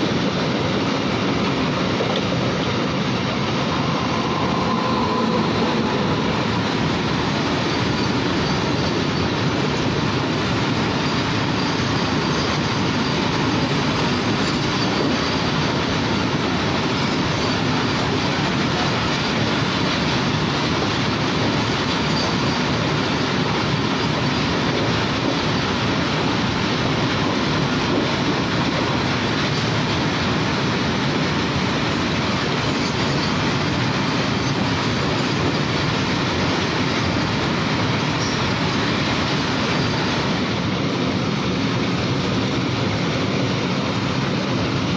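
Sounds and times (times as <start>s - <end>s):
freight train wheels on rails: 0.0s - 44.9s.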